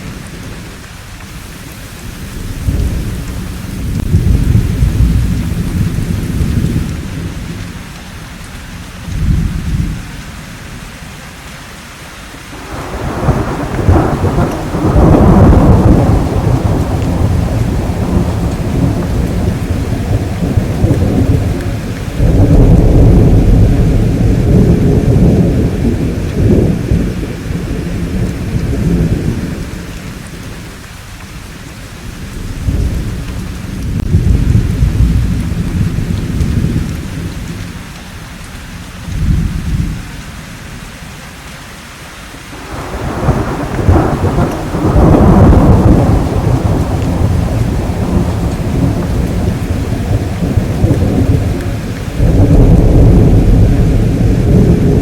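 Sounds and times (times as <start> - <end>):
steady rain: 0.0 - 55.0
rolling thunder: 1.8 - 10.3, 12.6 - 30.8, 31.9 - 40.8, 42.6 - 55.0.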